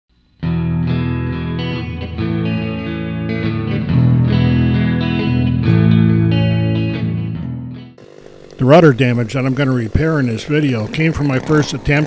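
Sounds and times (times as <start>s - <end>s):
effects-laden electric guitar: 0.4s - 12.0s.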